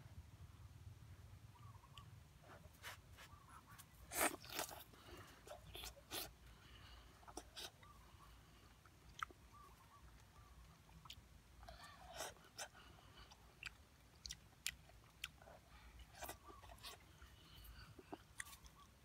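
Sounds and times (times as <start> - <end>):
crunchy chewing: 1.9 - 8.0, 8.8 - 19.0.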